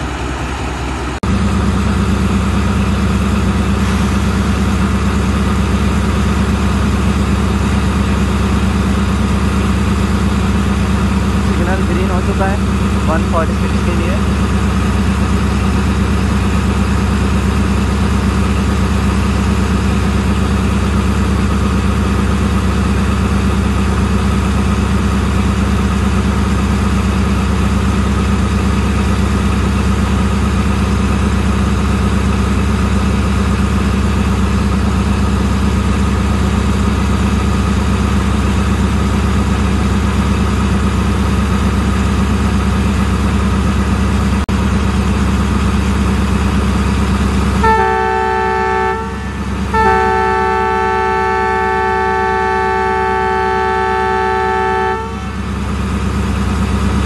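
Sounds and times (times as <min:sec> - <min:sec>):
locomotive engine idling: 0:00.0 - 0:57.0.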